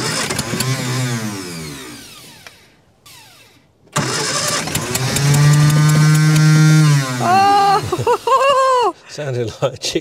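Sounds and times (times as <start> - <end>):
car engine starting and running: 0.0 - 8.6.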